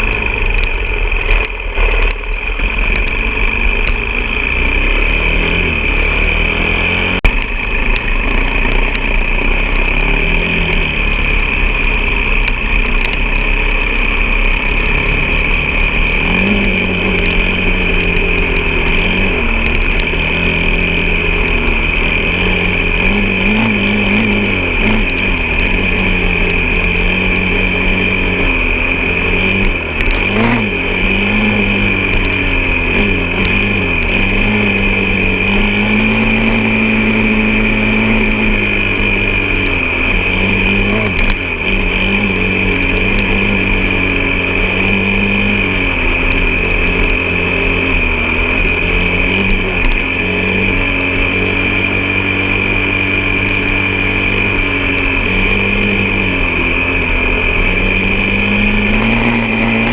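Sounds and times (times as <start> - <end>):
high-pitched whine: 0.0 - 59.9
off-road vehicle engine revving: 0.0 - 59.9.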